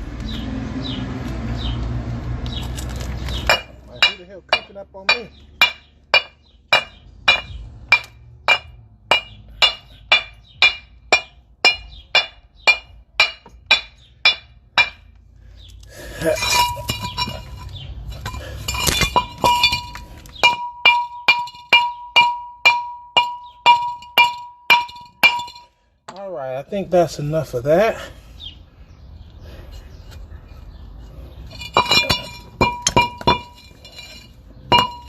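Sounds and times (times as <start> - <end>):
rough metallic clattering: 2.5 - 26.4, 29.6 - 35.0.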